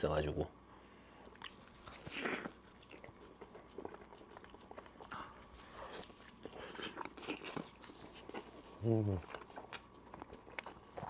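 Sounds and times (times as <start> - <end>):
person biting and chewing: 1.4 - 11.0.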